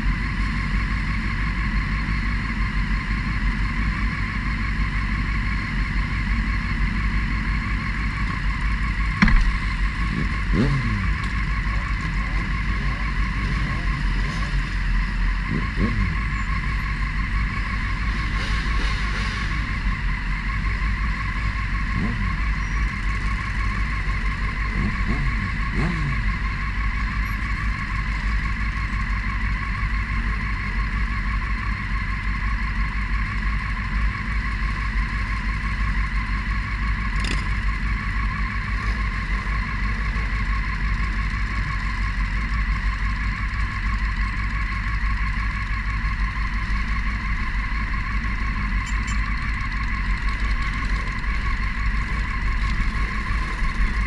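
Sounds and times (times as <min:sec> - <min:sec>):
motorcycles idling: 0:00.0 - 0:54.0
motorcycles revving: 0:00.0 - 0:54.0.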